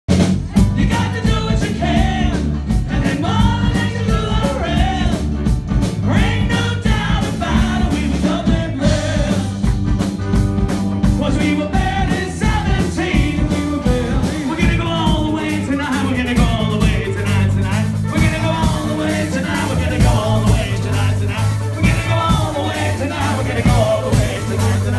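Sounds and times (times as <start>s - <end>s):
drum beat: 0.1s - 24.9s
live rock band playing: 0.1s - 24.9s
person singing: 0.5s - 5.4s, 6.0s - 9.8s, 11.2s - 24.9s.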